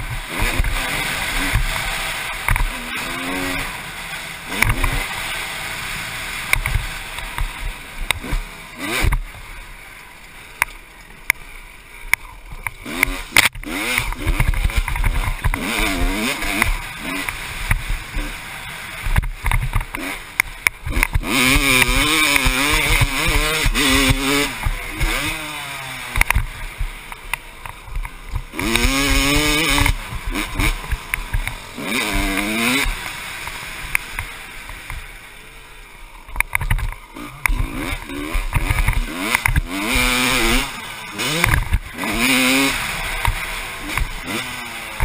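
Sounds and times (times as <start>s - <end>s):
two-stroke engine revving: 0.0s - 10.7s, 11.3s - 35.5s, 36.4s - 45.0s.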